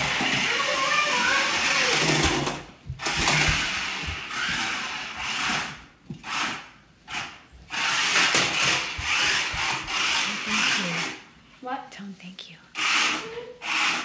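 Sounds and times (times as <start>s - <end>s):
toy car electric motors whirring: 0.0s - 11.3s, 12.8s - 14.0s.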